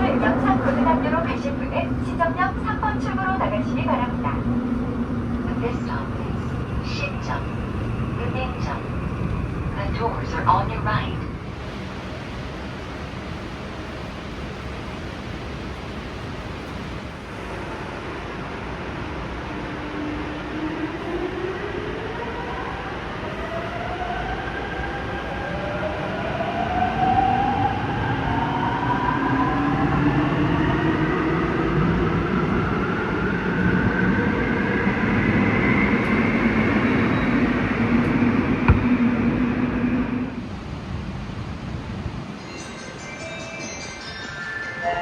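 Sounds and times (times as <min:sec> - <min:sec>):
subway train motor whine: 0:00.0 - 0:45.0
train rolling noise: 0:00.0 - 0:45.0.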